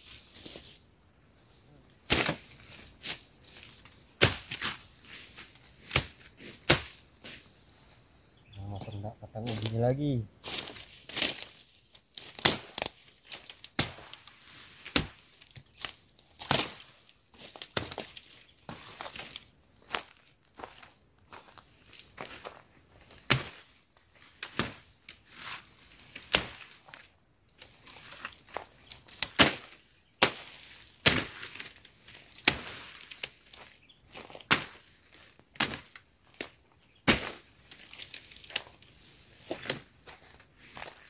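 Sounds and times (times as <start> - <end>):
rustle of cut vegetation: 0.0 - 20.7, 23.1 - 41.0.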